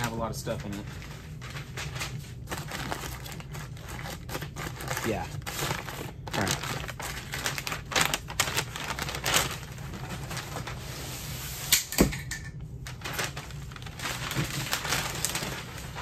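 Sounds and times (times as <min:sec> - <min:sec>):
paper crinkling and rustling: 0:00.0 - 0:11.5, 0:12.8 - 0:16.0.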